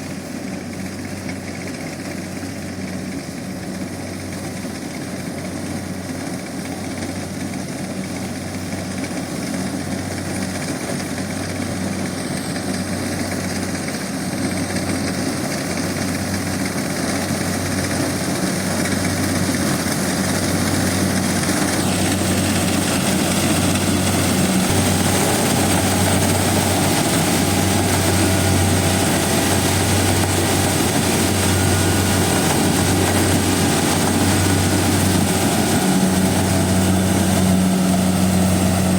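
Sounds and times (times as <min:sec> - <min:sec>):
diesel engine running: 0:05.9 - 0:38.9.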